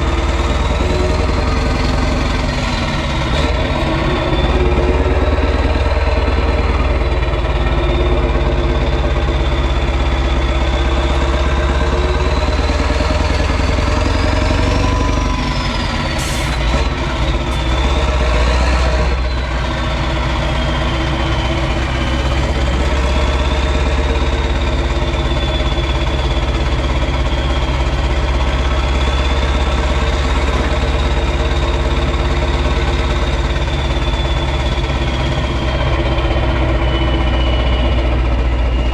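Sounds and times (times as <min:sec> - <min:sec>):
diesel engine running: 0:00.0 - 0:38.9
high turbo whistle: 0:00.0 - 0:38.9.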